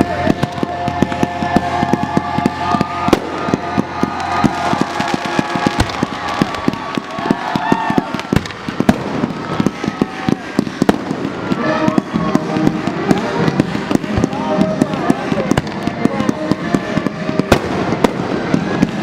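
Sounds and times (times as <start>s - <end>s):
fireworks cracking and banging: 0.0s - 19.0s
whistling fireworks: 0.0s - 19.0s.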